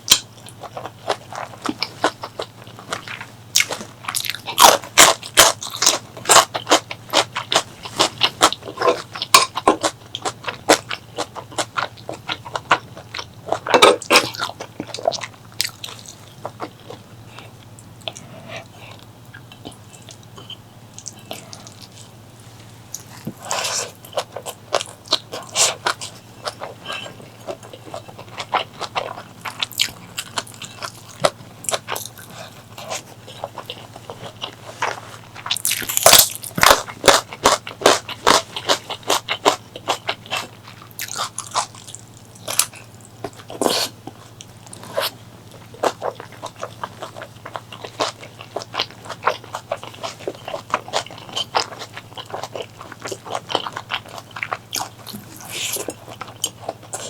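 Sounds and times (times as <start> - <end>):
low steady hum: 0.0 - 57.0
person chewing crunchy food: 0.0 - 57.0.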